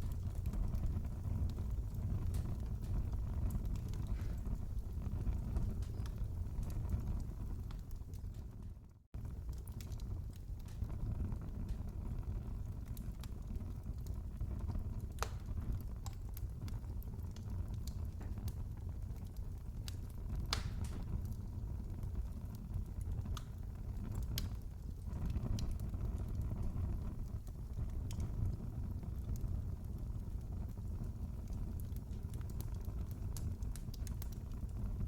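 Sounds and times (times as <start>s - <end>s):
sharp pops from fire: 0.0s - 8.5s, 9.2s - 35.0s
wood fire crackling: 0.0s - 35.0s.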